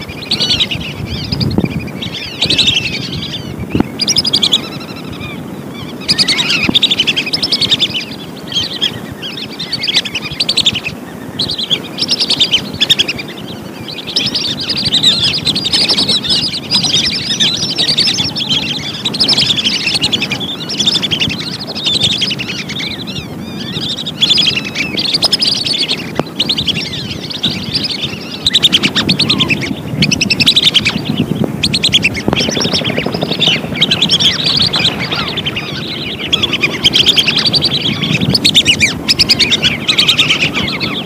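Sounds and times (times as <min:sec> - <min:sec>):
whistling ducks calling: 0:00.0 - 0:41.0.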